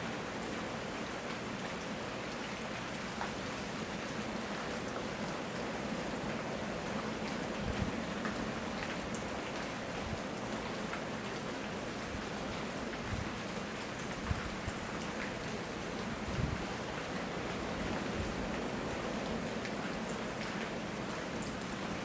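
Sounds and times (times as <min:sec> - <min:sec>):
raindrops pattering on surfaces: 0:00.0 - 0:22.0
steady rain hiss: 0:00.0 - 0:22.0.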